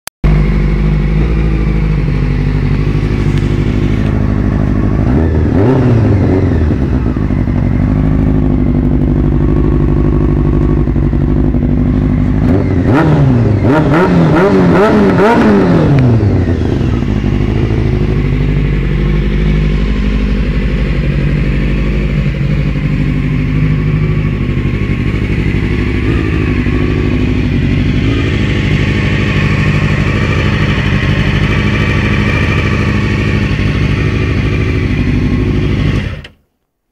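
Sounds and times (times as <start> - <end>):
motorcycle engine idling: 0.2 - 36.4.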